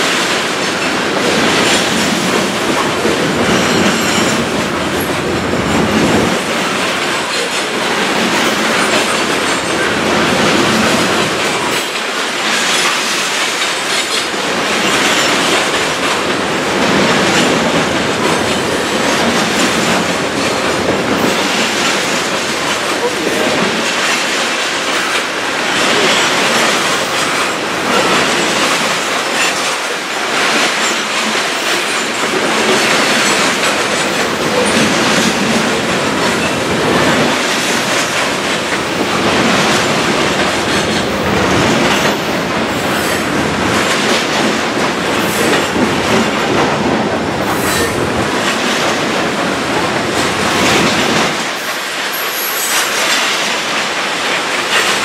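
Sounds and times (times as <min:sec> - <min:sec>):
steel wheels rumbling on rail: 0:00.0 - 0:55.0
wheels clacking over rail joints: 0:00.0 - 0:55.0.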